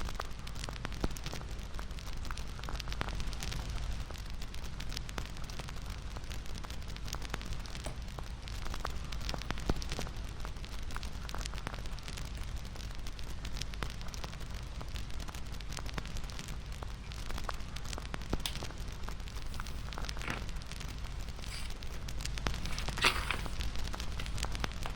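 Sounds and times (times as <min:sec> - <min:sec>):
wood fire crackling and popping: 0:00.0 - 0:24.9
hiss of burning: 0:01.2 - 0:24.9.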